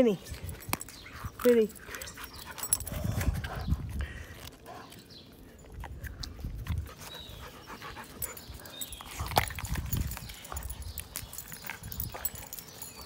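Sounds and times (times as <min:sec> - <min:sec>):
dog sniffing and panting: 0:00.0 - 0:13.0.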